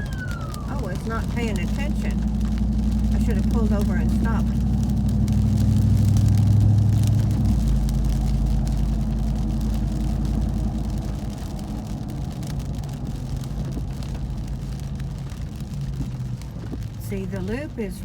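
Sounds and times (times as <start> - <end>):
engine humming at low revs: 0.0 - 18.0
tyres on wet road: 0.0 - 18.0.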